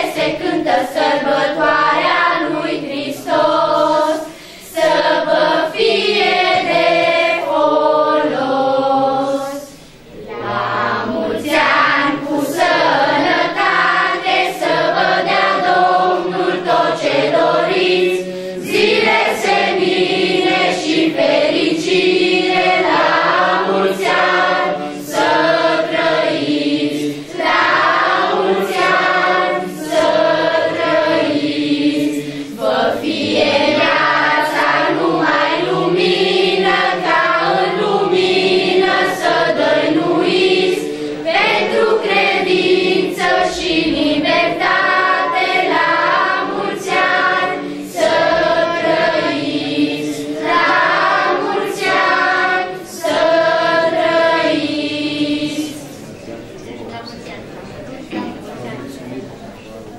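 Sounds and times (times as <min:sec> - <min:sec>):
choir of children and adults singing: 0:00.0 - 0:56.4.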